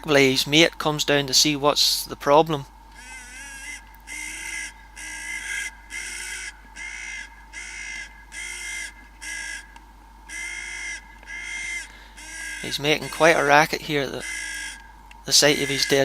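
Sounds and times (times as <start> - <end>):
crow cawing harshly: 2.9 - 16.0.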